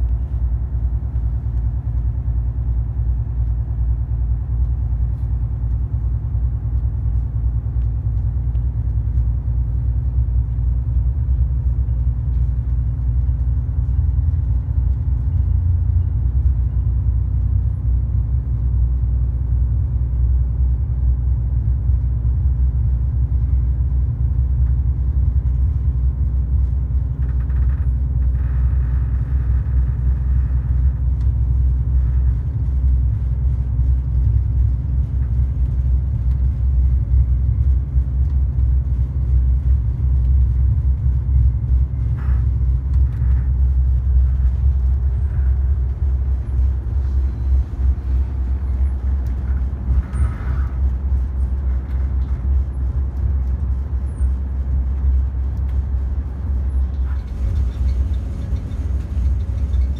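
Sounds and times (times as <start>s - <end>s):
faint hum: 0.0s - 59.9s
rail car low rumble: 0.0s - 59.9s.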